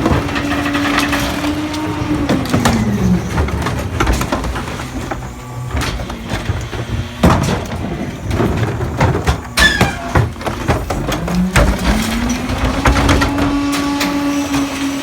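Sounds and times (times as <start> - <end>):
garbage truck crunching trash: 0.0 - 15.0
hydraulic whine: 0.0 - 15.0.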